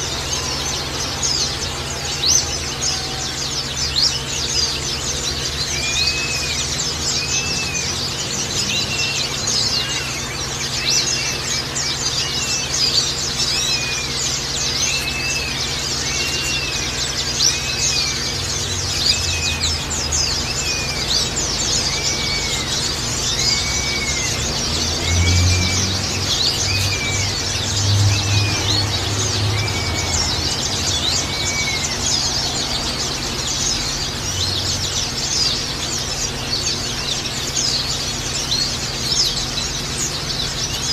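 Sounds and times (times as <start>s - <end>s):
birds chirping and twittering: 0.0s - 40.9s
lower arched bird call: 0.0s - 40.9s.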